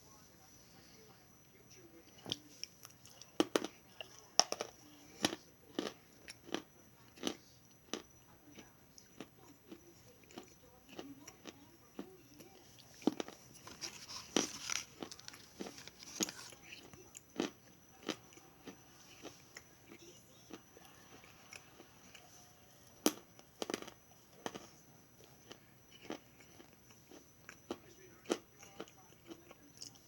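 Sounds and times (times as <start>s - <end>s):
crunching and chewing: 2.0s - 30.0s.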